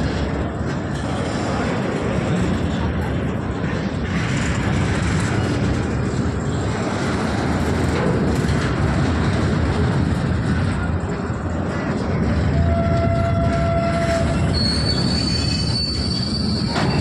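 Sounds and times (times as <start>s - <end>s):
steel wheels clattering on rails: 0.0s - 17.0s
train rumble: 0.0s - 17.0s.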